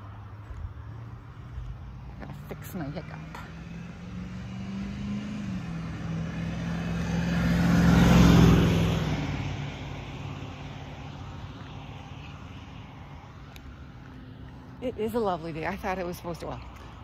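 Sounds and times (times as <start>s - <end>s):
car driving past: 0.2s - 14.8s.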